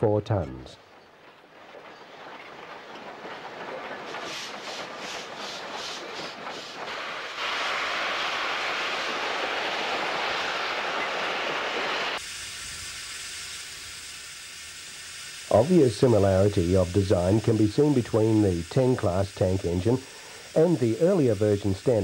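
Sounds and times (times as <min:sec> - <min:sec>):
steam locomotive exhaust beats: 0:00.0 - 0:22.0
steam hissing: 0:00.5 - 0:22.0.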